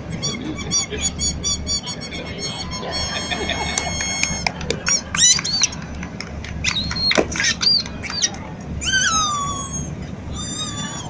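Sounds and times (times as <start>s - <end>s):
comic whistle squeaks: 0.0s - 5.8s, 6.6s - 11.0s
crowd and street hubbub: 0.0s - 11.0s.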